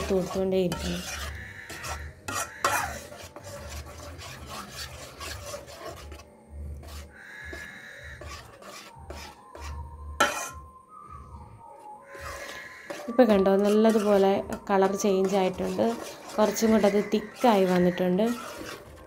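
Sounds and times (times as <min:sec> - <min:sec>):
spatula scraping a pan: 0:00.0 - 0:10.7, 0:11.8 - 0:19.0.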